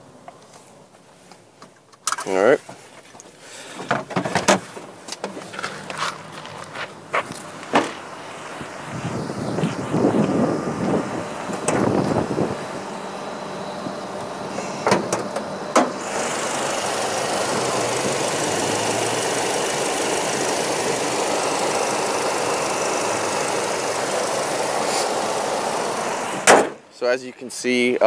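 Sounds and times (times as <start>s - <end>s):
car engine idling: 0.0s - 26.7s.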